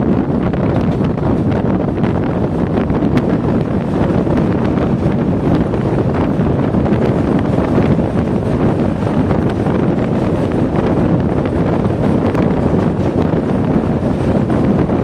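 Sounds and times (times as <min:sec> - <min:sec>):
train rumbling across bridge: 0:00.0 - 0:15.0
wind buffeting microphone: 0:00.0 - 0:15.0.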